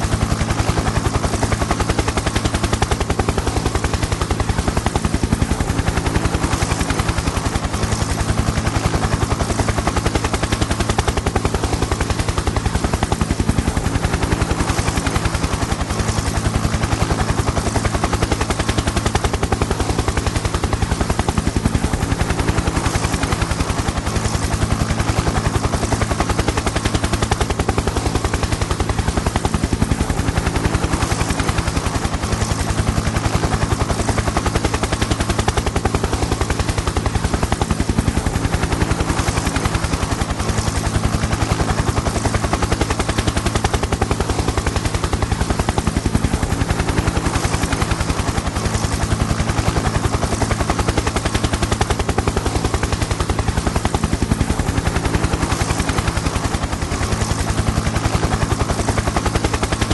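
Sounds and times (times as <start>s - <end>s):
helicopter engine drone: 0.0s - 59.9s
helicopter rotor chopping: 0.0s - 59.9s.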